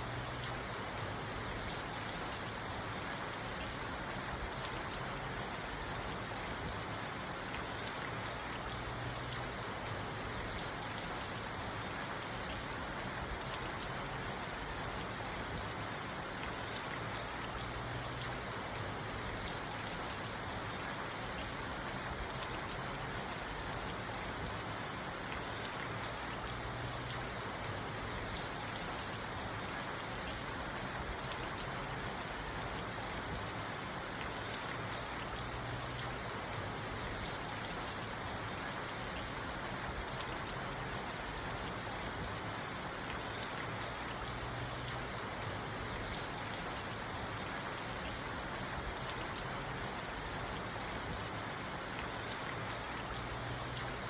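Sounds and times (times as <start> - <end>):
rain on a car roof: 0.0 - 54.0.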